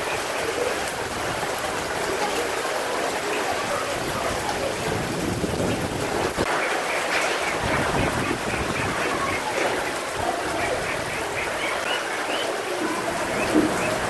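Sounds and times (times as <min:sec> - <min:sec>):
heavy rain pouring: 0:00.0 - 0:14.0
wind gusts through trees: 0:00.0 - 0:14.0.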